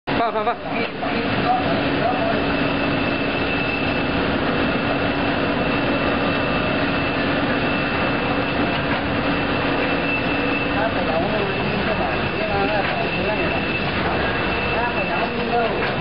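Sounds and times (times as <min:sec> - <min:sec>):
high whine: 0:00.1 - 0:16.0
packing machine rushing: 0:00.8 - 0:16.0
low hum: 0:01.0 - 0:16.0.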